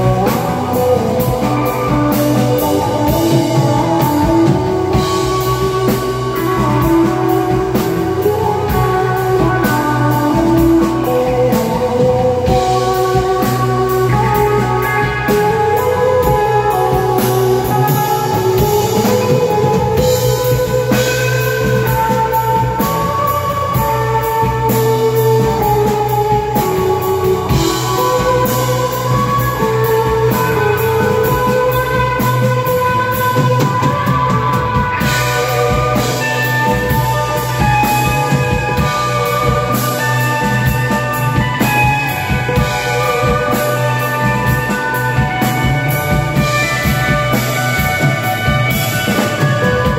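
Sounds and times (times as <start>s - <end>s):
bass line: 0.0s - 49.9s
electric guitar long notes: 0.0s - 49.9s.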